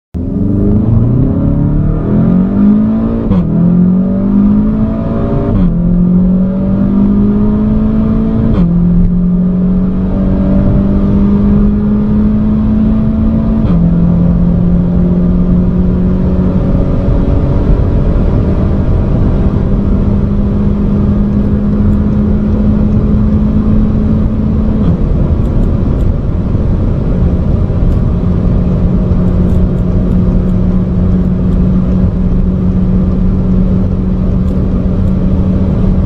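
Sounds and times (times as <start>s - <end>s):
car engine accelerating hard: 0.2s - 36.0s.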